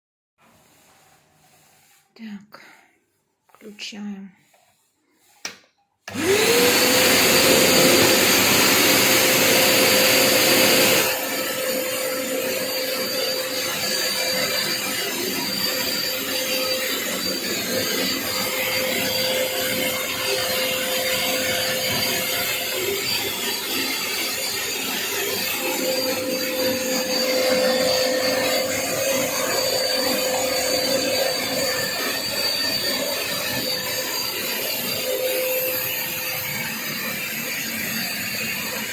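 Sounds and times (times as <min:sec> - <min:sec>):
shop vacuum cleaner running: 0:06.1 - 0:38.9.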